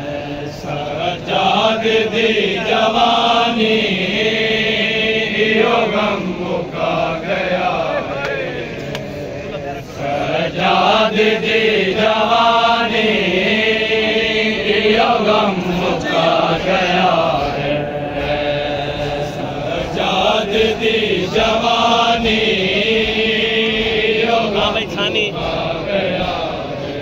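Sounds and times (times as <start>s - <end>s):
men chanting a lament: 0.0s - 27.0s.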